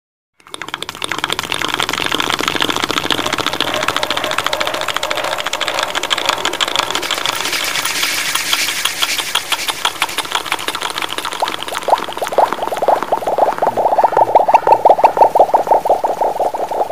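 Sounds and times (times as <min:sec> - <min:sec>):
rapid tapping on microphone: 0:00.4 - 0:16.9.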